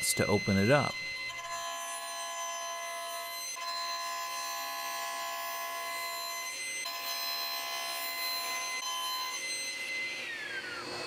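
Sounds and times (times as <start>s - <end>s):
saw cutting noise: 0.0s - 11.0s
table saw whining: 0.0s - 11.0s.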